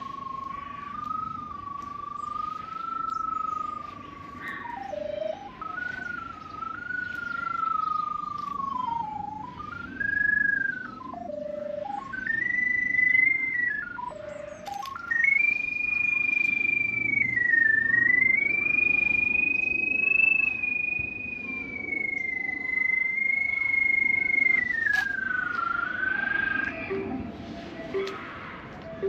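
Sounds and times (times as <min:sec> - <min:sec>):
whistle-like locator tone: 0:00.0 - 0:29.0.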